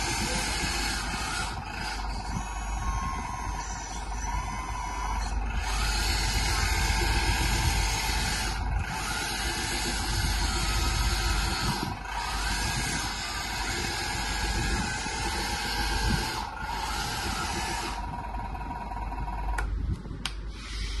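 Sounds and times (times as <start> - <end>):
hydraulic pump whining and hissing: 0.0 - 19.7, 20.5 - 21.0.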